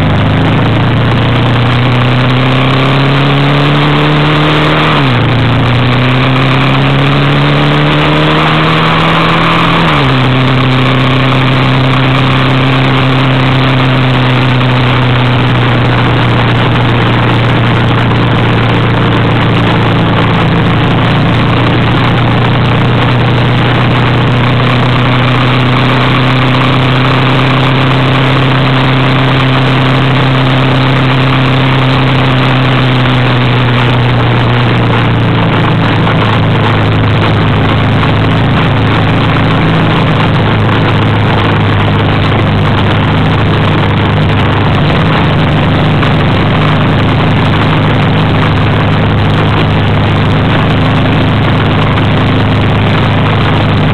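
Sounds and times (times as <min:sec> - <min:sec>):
loud steady rush of noise: 0:00.0 - 0:53.9
vehicle engine accelerating: 0:00.0 - 0:53.9.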